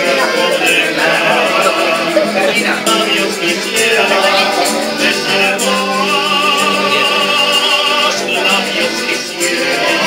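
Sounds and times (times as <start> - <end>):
men singing: 0.0 - 10.0
piano accordion: 0.0 - 10.0.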